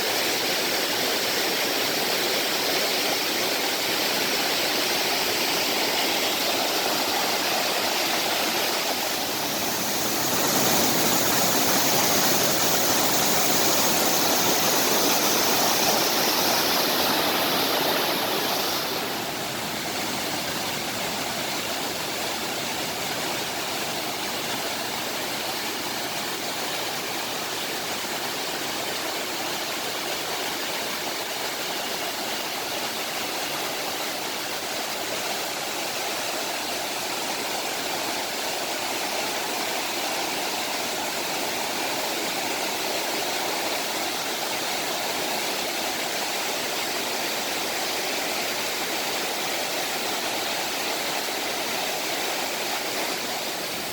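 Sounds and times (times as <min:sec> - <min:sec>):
stream splashing over rocks: 0:00.0 - 0:53.9.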